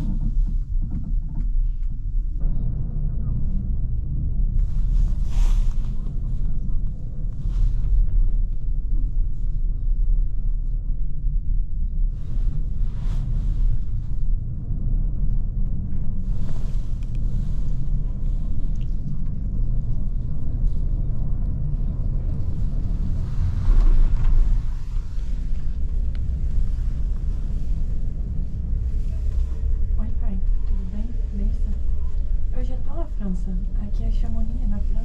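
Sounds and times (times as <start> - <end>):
cable car cabin rumble: 0.0 - 35.0.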